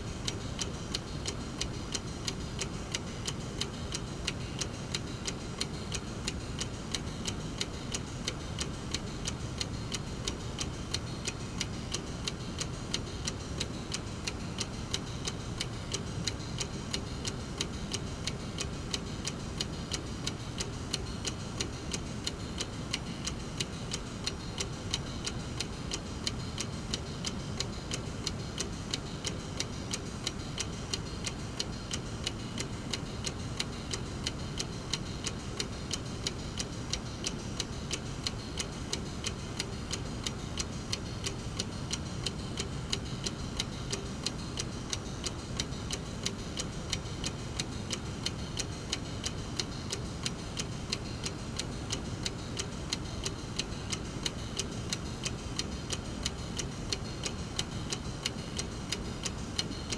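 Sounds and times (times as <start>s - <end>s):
clock ticking: 0.1s - 59.9s.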